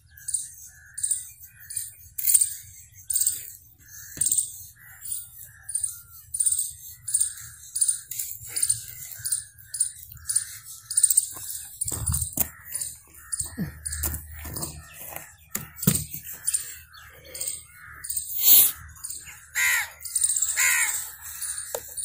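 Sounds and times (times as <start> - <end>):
bird calling shrilly: 0.2 - 22.0.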